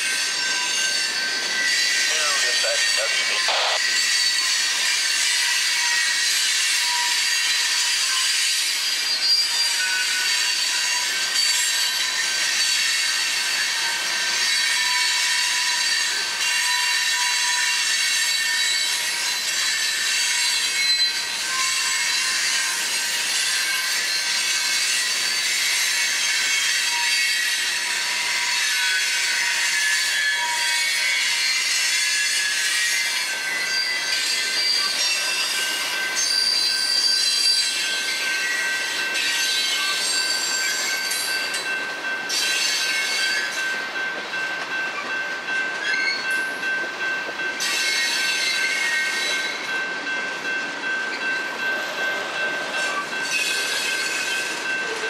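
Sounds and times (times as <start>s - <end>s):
freight cars rolling on rails: 0.0s - 55.0s.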